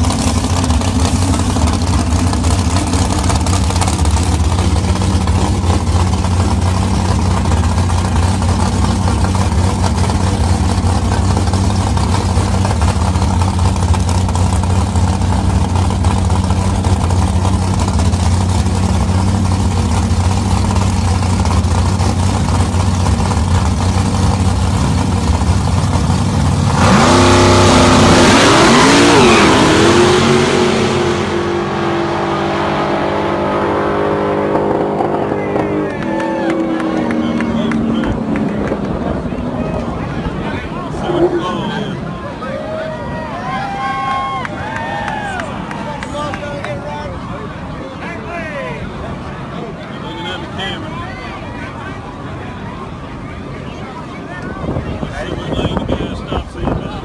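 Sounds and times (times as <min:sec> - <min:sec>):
drag cars launching: 0:00.0 - 0:47.8
drag cars engine drone: 0:00.0 - 0:57.0.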